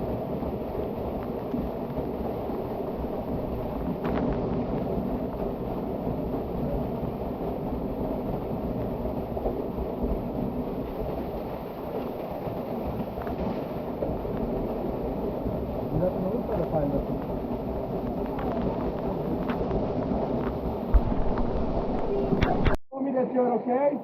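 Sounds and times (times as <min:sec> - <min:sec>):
rushing water cascade: 0:00.0 - 0:22.8.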